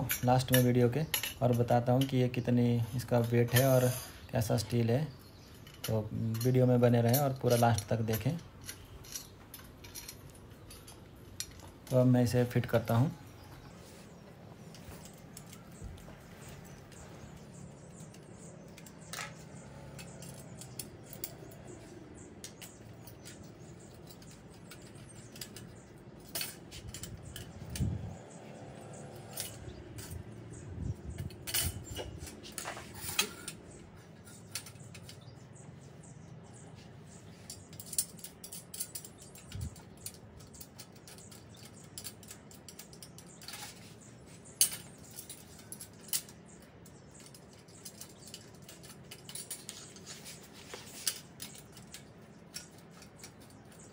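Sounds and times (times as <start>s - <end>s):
metal parts clinking: 0.0s - 13.4s, 14.6s - 35.6s, 37.1s - 53.9s.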